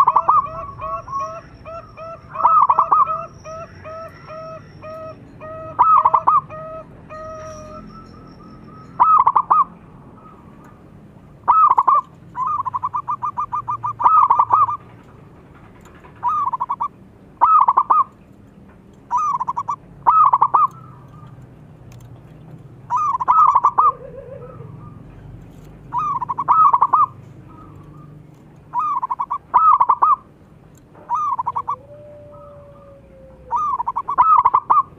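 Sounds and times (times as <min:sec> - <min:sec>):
dove cooing song: 0:00.0 - 0:15.1, 0:15.7 - 0:18.2, 0:19.0 - 0:34.9.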